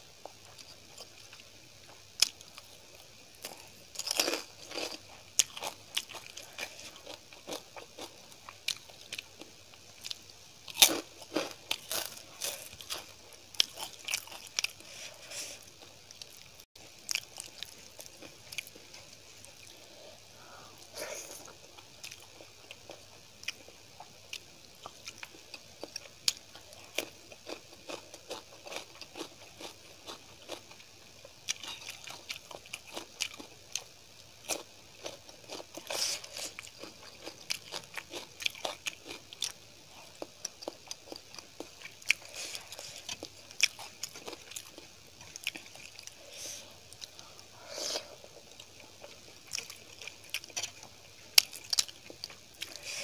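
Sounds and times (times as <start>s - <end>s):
person chewing crunchy food: 0.2s - 53.0s.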